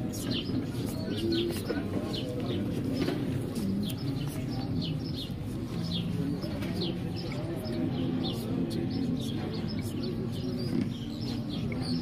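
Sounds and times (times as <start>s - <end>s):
murmur of voices: 0.0s - 12.0s
small birds chirping: 0.0s - 12.0s.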